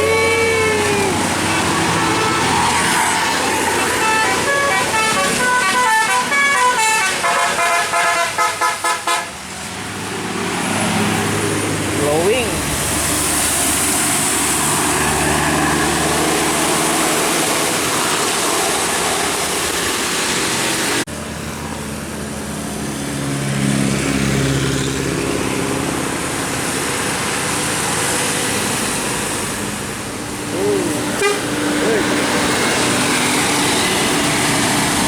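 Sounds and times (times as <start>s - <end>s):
road traffic engines running: 0.0s - 35.0s.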